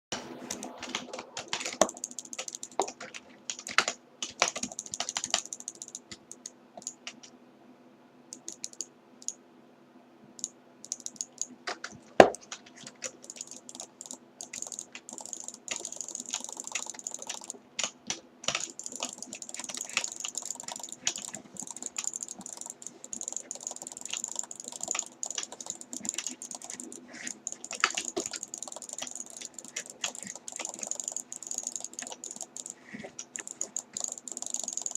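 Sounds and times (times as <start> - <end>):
rapid irregular clicking: 0.1 - 7.3, 8.4 - 9.4, 10.4 - 34.9
faint steady hum: 0.2 - 34.9.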